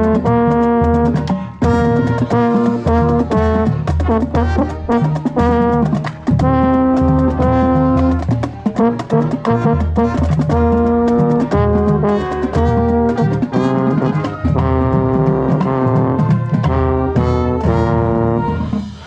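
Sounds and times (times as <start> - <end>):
marching band brass: 0.0 - 19.0.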